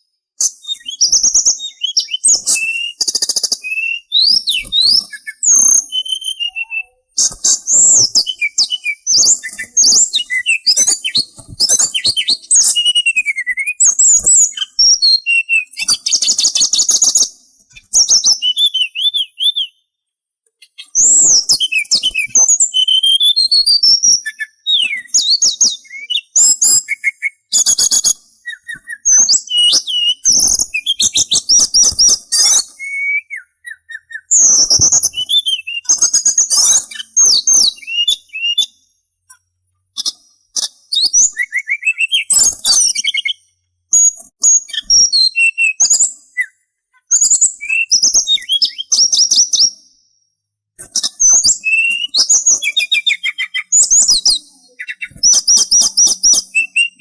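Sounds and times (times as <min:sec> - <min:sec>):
songbird singing: 0:00.0 - 0:20.0, 0:20.6 - 0:49.8, 0:51.0 - 0:57.0.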